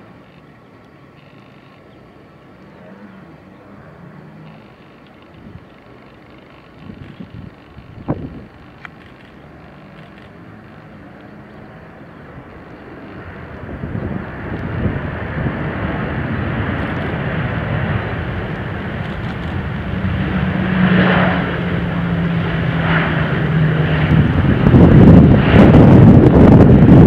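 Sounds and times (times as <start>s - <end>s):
jet engines under reverse thrust: 0.0s - 27.0s.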